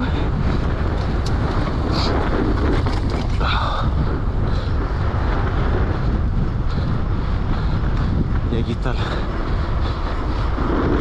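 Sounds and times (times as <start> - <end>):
bike clicking and rattling: 0.0 - 11.0
wind buffeting the microphone: 0.0 - 11.0.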